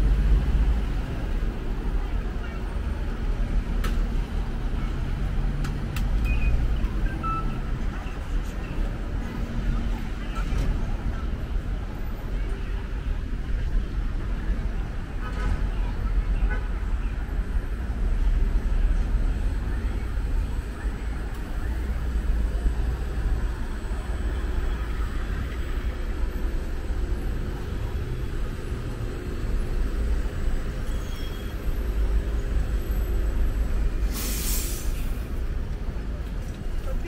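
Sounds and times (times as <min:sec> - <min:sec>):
cars and buses passing: 0:00.0 - 0:37.0.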